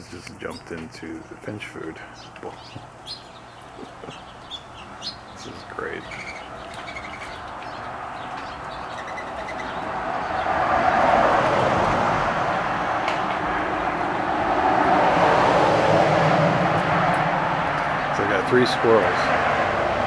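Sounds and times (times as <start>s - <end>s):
passing vehicle engine: 3.1s - 20.0s.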